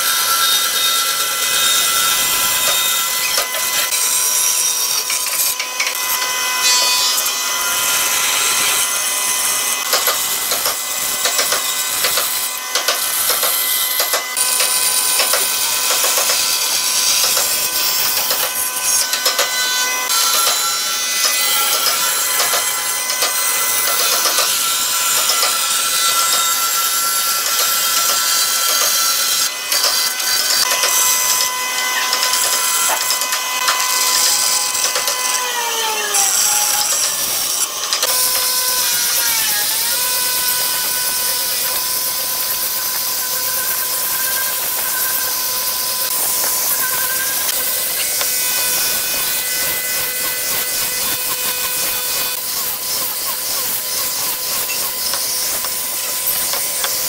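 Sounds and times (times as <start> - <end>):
bandsaw whine: 0.0 - 57.0
saw blade rasping in wood: 0.0 - 57.0.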